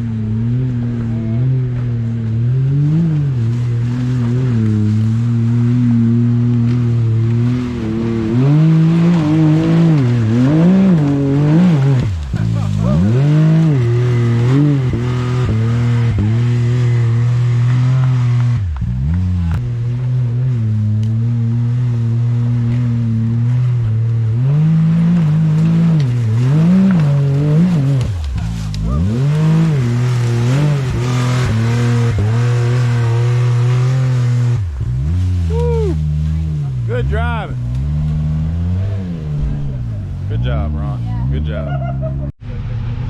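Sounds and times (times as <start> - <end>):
off-road vehicle engine revving: 0.0 - 43.0.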